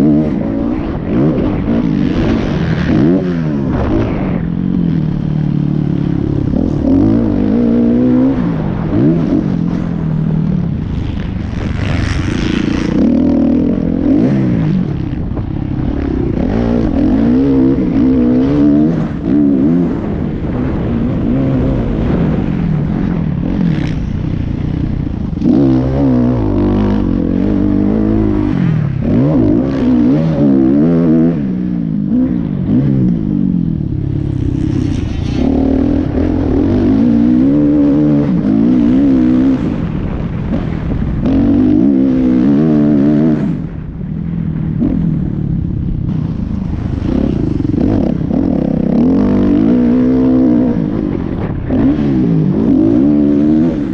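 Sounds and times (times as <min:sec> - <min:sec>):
motocross engines revving: 0:00.0 - 0:45.1.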